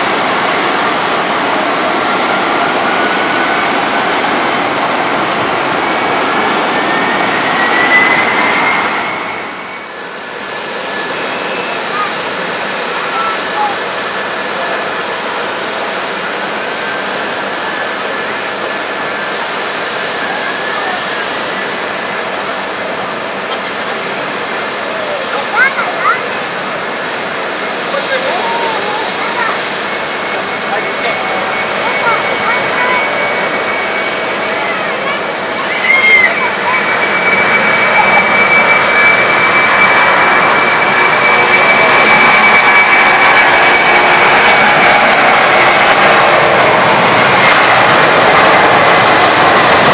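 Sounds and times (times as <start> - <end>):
high-pitched engine whine: 0.0 - 49.9
jet engines rushing: 0.0 - 49.9.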